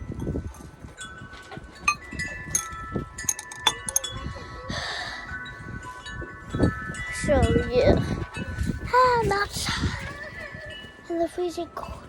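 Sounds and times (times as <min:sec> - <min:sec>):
metal chimes ringing: 0:00.0 - 0:12.0.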